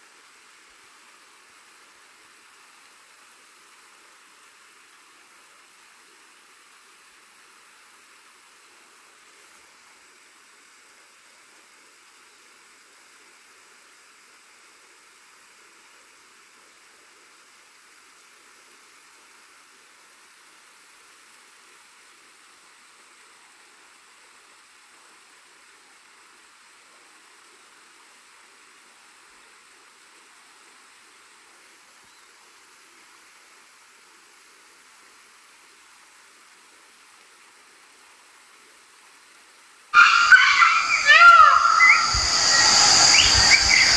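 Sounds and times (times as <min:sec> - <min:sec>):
faint steady hiss: 0:00.0 - 0:43.9.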